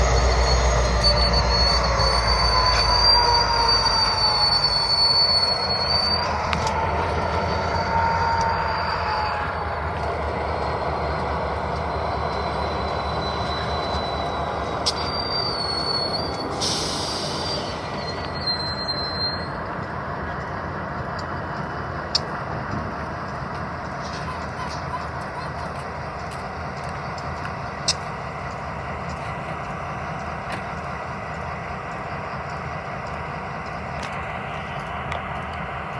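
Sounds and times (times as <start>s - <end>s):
locomotive rumble: 0.0s - 35.9s
train wheels squealing on rails: 0.0s - 35.9s.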